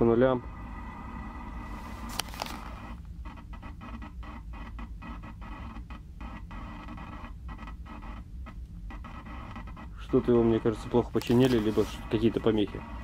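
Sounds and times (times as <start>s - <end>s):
electrical hum: 0.0s - 13.0s
fluttering static hiss: 0.0s - 13.0s.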